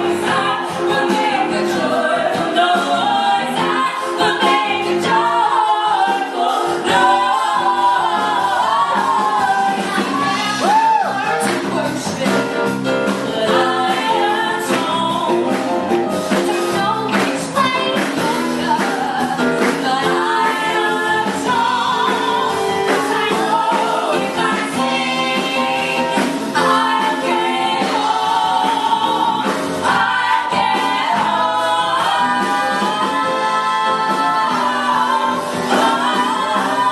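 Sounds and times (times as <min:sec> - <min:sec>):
drums: 0:00.0 - 0:36.9
piano: 0:00.0 - 0:36.9
women singing gospel in harmony: 0:00.0 - 0:36.9.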